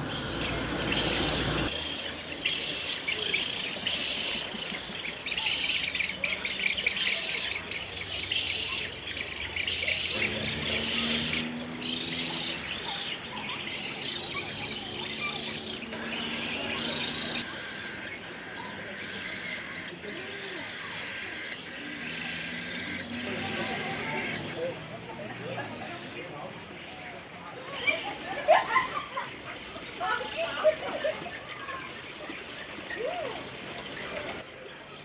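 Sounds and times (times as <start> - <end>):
small birds chirping and chattering: 0.0 - 35.0.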